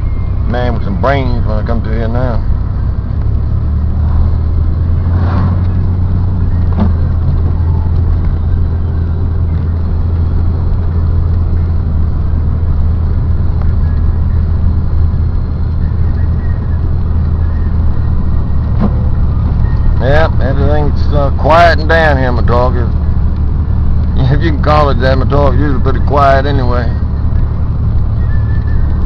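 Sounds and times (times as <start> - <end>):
vehicle engine and road drone: 0.0 - 29.0.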